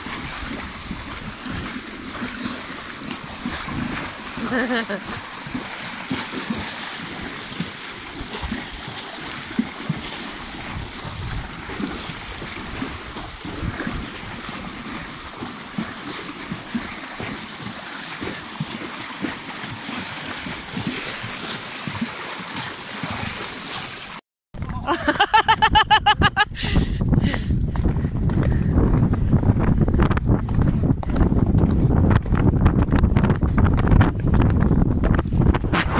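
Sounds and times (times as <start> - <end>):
horses splashing through water: 0.0 - 35.9.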